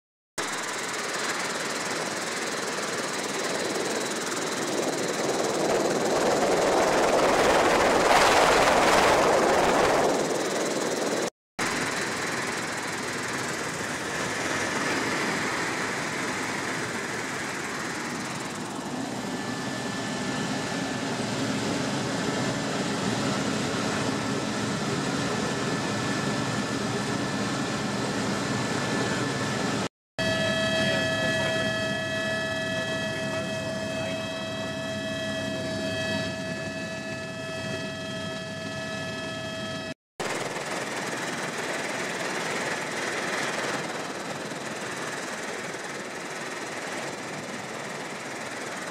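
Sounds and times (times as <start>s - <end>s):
high steady whine: 0.4s - 22.5s, 28.6s - 48.9s
helicopter engine and rotor noise: 0.4s - 48.9s.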